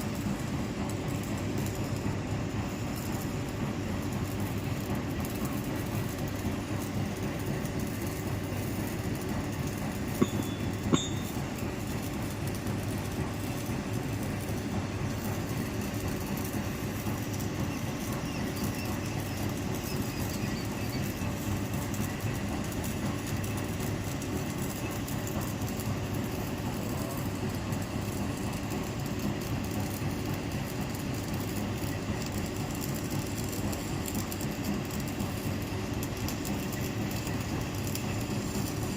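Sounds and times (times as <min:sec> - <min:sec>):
welding arc crackle: 0:00.0 - 0:38.9.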